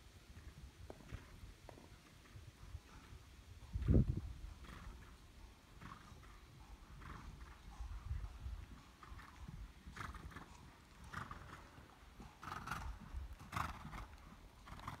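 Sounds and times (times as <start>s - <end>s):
muffled hoofbeats on sand: 0.0s - 15.0s.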